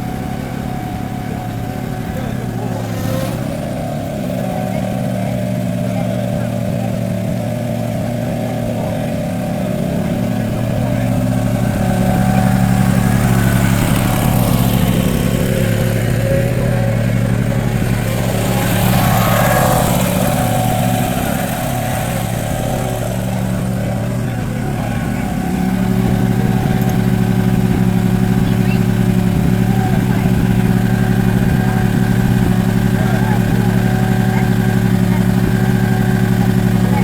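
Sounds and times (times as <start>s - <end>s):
lawnmower engine running: 0.0s - 37.0s.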